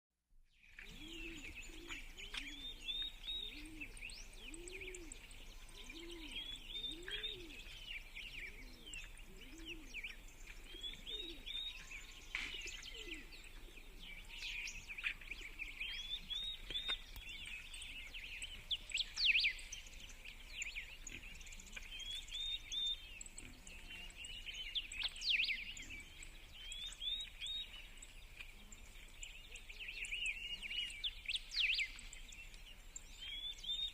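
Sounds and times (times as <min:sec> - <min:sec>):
birds singing and chirping: 0:00.5 - 0:33.9.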